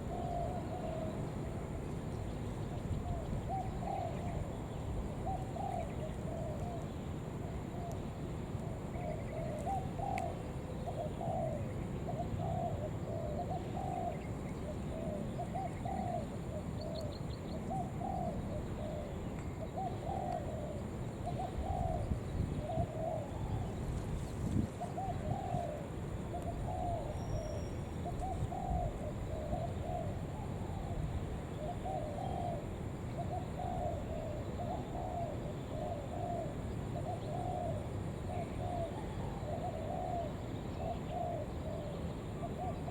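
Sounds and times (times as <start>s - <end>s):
dove cooing: 0.0s - 1.2s, 3.0s - 6.8s, 9.0s - 42.9s.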